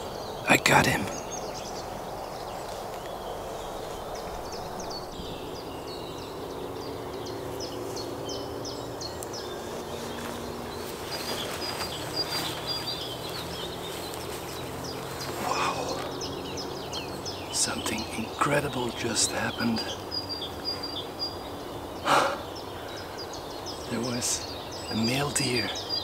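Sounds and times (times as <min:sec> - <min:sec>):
steady low hum: 0:00.0 - 0:24.7
songbirds chirping: 0:00.0 - 0:26.0.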